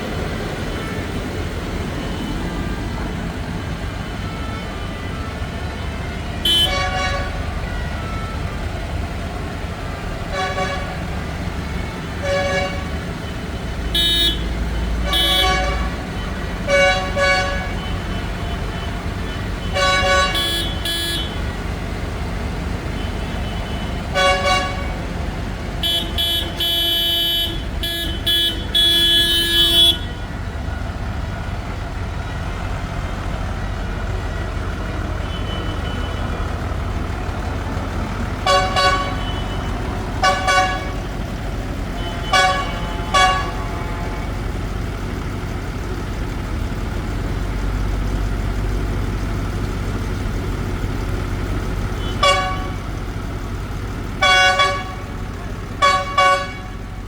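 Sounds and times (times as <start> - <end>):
tractor engines rumbling: 0.0 - 57.0
tractor horns tooting: 0.0 - 57.0.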